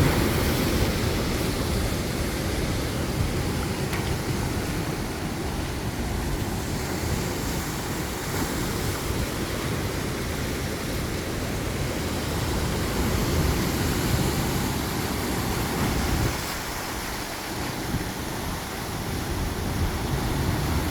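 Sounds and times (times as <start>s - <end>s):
sea surf washing in: 0.0s - 20.9s
wind rumbling on microphone: 0.0s - 20.9s.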